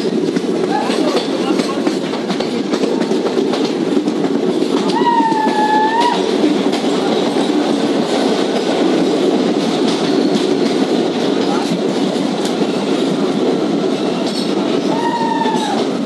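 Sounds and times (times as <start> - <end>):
train rumble: 0.0 - 16.0
train wheels clacking over rail joints: 0.0 - 16.0.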